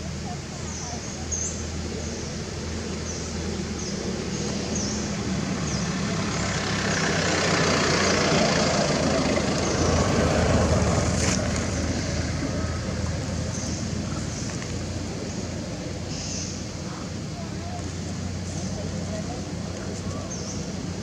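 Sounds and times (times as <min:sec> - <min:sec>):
vehicle engine humming: 0:00.0 - 0:21.0
vehicle passing: 0:03.3 - 0:21.0.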